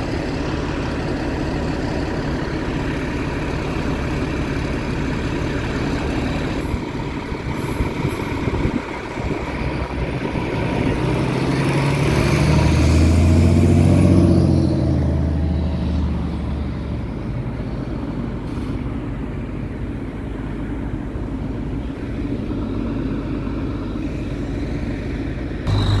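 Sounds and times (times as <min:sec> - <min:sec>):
street traffic rumble: 0:00.0 - 0:26.0
truck diesel engine passing: 0:00.0 - 0:26.0.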